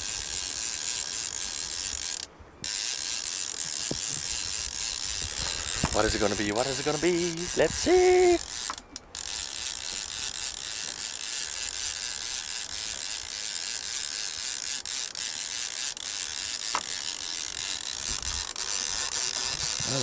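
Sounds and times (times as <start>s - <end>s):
fishing reel cranking: 0.0s - 20.0s.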